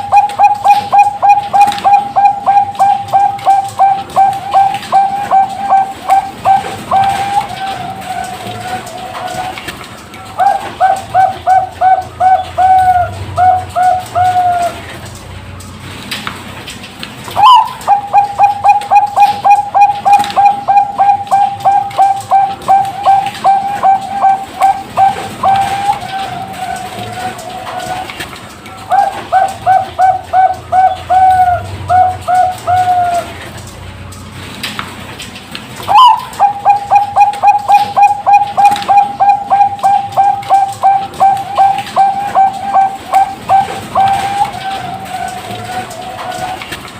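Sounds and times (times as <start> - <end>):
dove cooing: 0.0 - 15.2, 17.3 - 33.7, 35.8 - 46.9.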